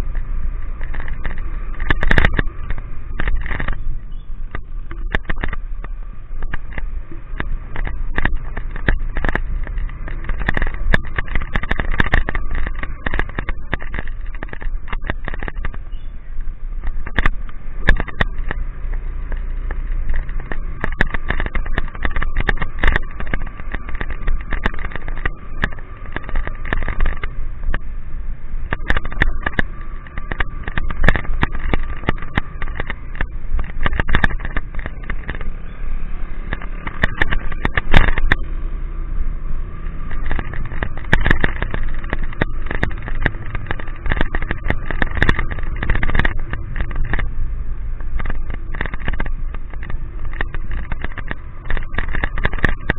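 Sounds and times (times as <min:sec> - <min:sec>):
raindrops clicking on camera: 0:00.0 - 0:52.9
wind and road rumble: 0:00.0 - 0:52.9.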